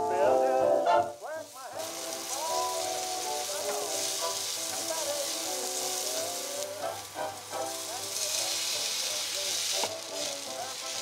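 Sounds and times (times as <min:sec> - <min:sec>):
tomatoes sizzling in hot oil: 0:00.2 - 0:11.0.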